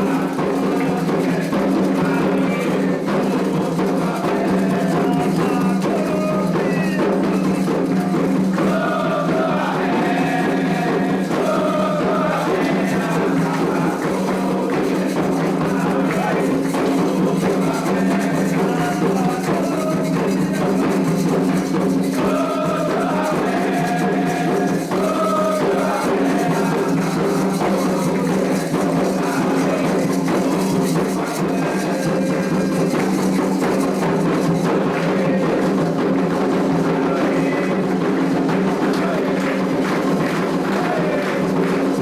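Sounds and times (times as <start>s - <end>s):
hand drums playing a steady rhythm: 0.0s - 42.0s
voices singing a chant: 0.0s - 42.0s.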